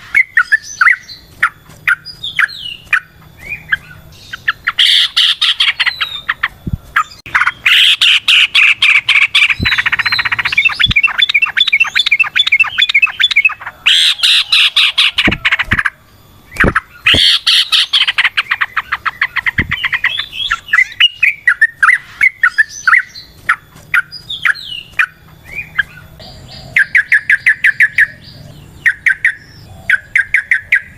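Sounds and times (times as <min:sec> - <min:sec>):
bird singing rapid chattering notes: 0:00.0 - 0:30.9.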